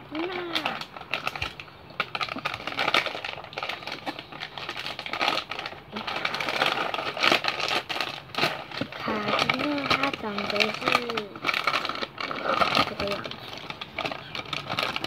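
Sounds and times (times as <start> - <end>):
plastic snack bag crinkling: 0.0 - 15.0.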